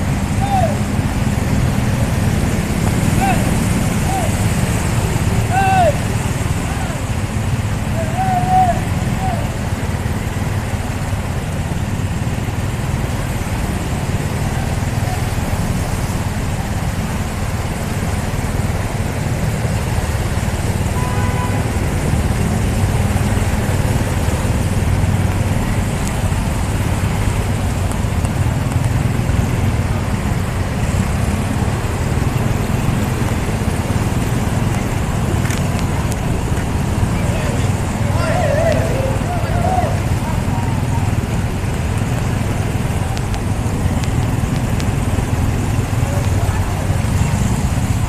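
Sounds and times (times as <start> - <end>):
low engine rumble: 0.0 - 48.0
water churning and splashing: 0.0 - 48.0.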